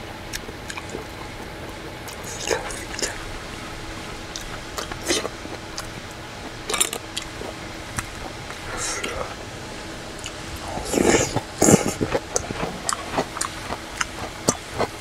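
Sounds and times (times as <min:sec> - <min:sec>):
faint steady hum: 0:00.0 - 0:15.0
wet chewing: 0:00.3 - 0:15.0.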